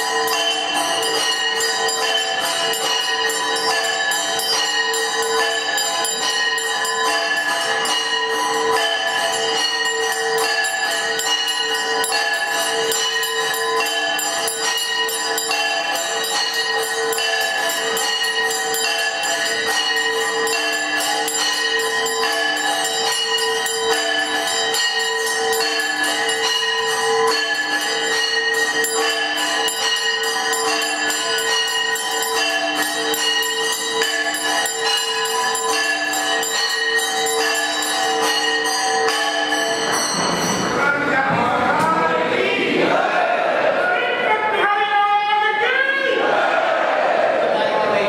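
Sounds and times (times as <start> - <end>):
temple bells ringing: 0.0 - 47.4.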